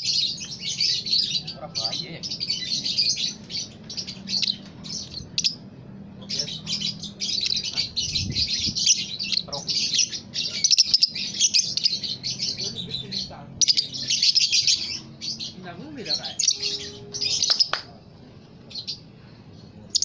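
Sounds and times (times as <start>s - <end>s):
lovebird chattering high chirps: 0.0s - 5.6s, 6.3s - 17.8s.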